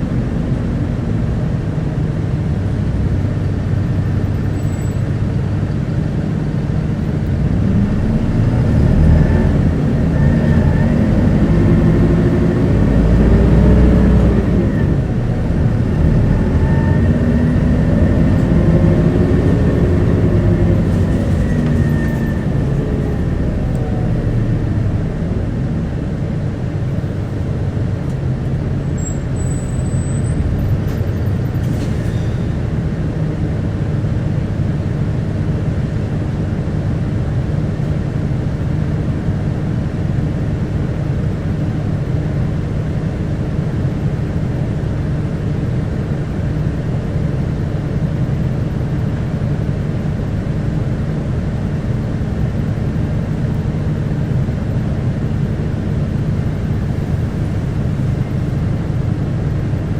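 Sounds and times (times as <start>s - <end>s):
bus engine accelerating: 0.0s - 59.9s.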